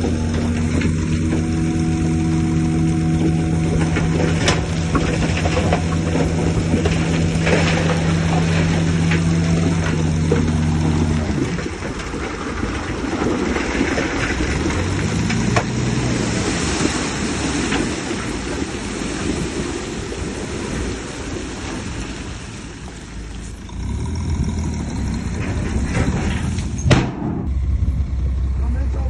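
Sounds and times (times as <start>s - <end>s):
heavy machinery diesel engine: 0.0s - 29.0s.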